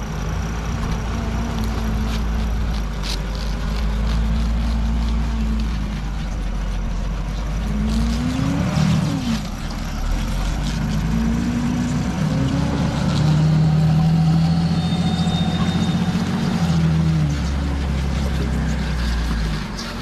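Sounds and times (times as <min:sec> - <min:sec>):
tracked vehicle engine driving past: 0:03.6 - 0:20.0.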